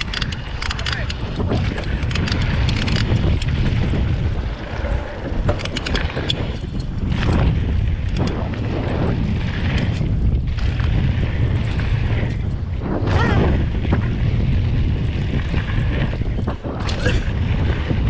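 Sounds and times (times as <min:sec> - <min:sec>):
bike clicks and rattles: 0:00.0 - 0:18.0
bike tyres on dirt: 0:00.0 - 0:18.0
wind rushing on microphone: 0:00.0 - 0:18.0.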